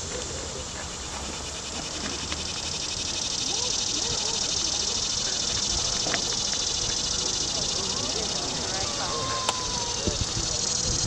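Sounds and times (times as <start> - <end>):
faint crowd voices: 0.0 - 11.0
insects trilling: 0.0 - 11.0.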